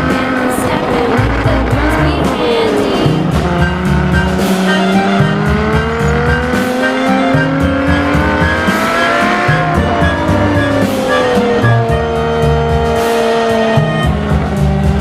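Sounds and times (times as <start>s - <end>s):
children's backing music: 0.0s - 15.0s
engine-like drone: 0.0s - 15.0s.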